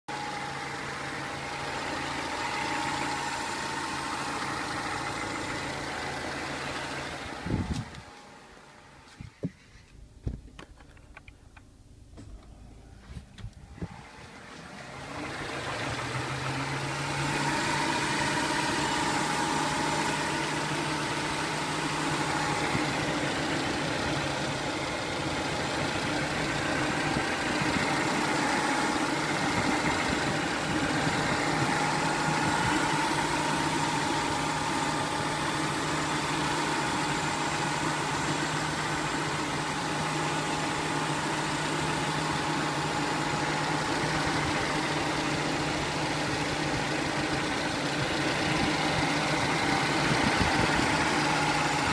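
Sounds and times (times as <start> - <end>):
car engine idling: 0.1 - 51.9.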